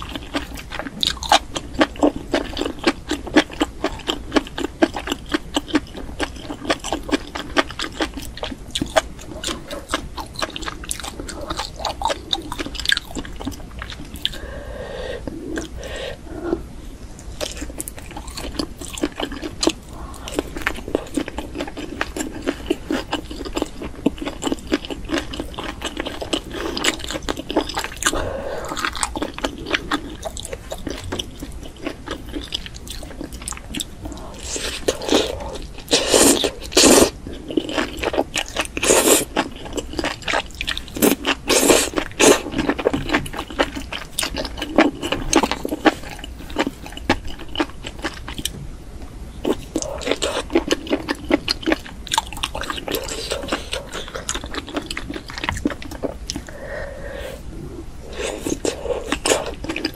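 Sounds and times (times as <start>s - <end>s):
close chewing and crunching: 0.0s - 14.4s, 17.2s - 56.7s, 58.0s - 59.9s.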